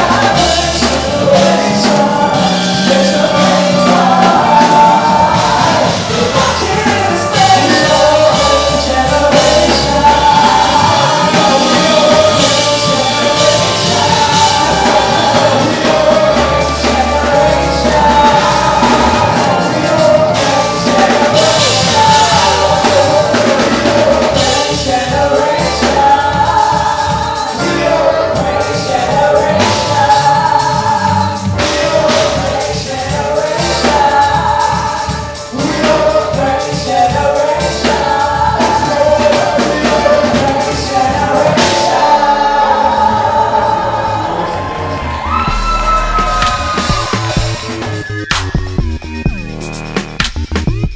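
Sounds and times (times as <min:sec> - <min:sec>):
voices singing gospel music: 0:00.0 - 0:48.4
band with steady bass beat: 0:00.0 - 0:50.9.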